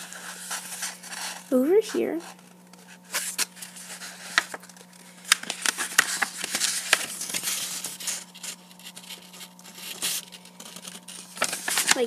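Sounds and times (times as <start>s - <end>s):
paper being folded and creased: 0.0s - 12.0s
paper rustling: 0.0s - 12.0s.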